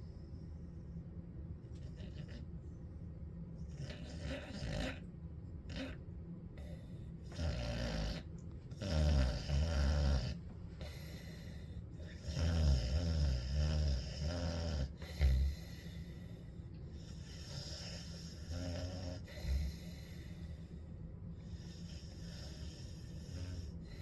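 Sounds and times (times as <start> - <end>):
dog snoring: 1.7 - 2.7, 3.6 - 6.0, 6.6 - 20.7, 21.4 - 24.0
dog breathing: 1.7 - 3.0, 3.6 - 24.0.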